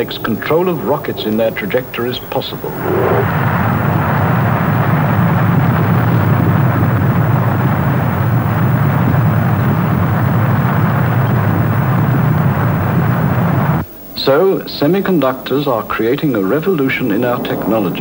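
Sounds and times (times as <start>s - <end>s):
rocket engine rumble: 0.0s - 18.0s.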